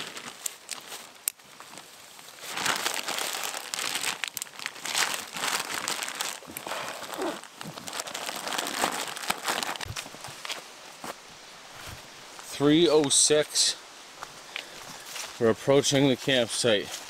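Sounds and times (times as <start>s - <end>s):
brush and leaves rustling: 0.0s - 17.0s.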